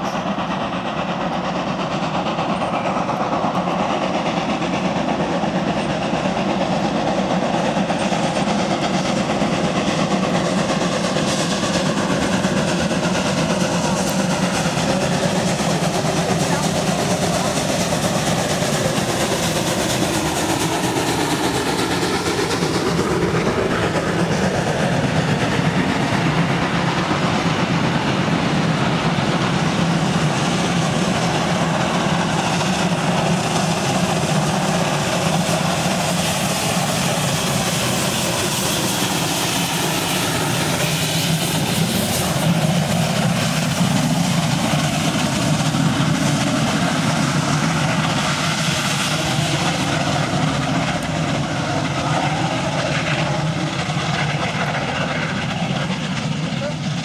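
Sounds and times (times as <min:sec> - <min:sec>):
steam locomotive working hard: 0:00.0 - 0:57.0
train coaches rolling on rails: 0:00.0 - 0:57.0.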